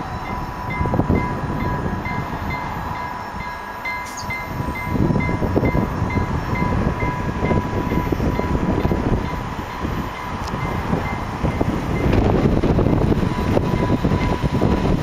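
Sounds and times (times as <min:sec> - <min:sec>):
electric train rumble: 0:00.0 - 0:15.0
high warning ding: 0:00.0 - 0:15.0
steady tone: 0:00.0 - 0:15.0.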